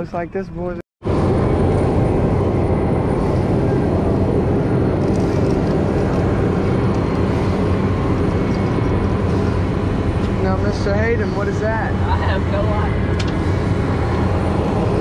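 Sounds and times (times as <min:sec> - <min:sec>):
boat motor droning: 0:01.0 - 0:15.0.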